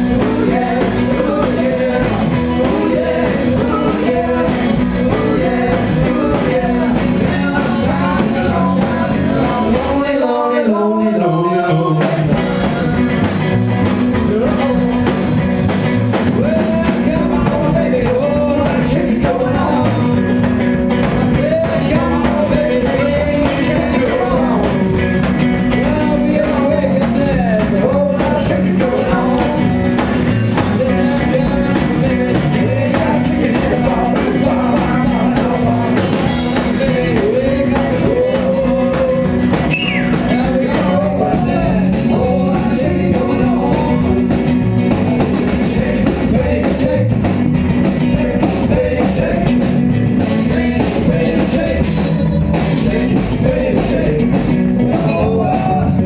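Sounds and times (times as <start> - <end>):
lead vocal singing: 0.0 - 56.0
live rock and roll band: 0.0 - 56.0.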